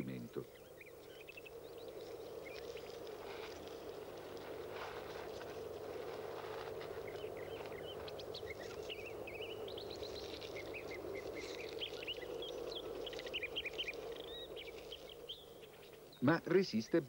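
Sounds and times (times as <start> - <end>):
outdoor background rush: 0.0 - 17.0
small birds chirping: 0.0 - 17.0.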